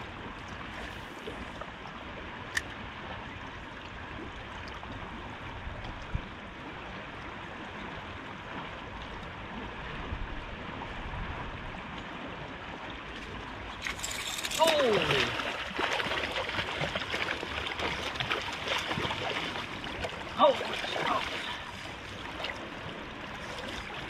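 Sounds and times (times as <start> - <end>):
river current flowing: 0.0 - 24.0.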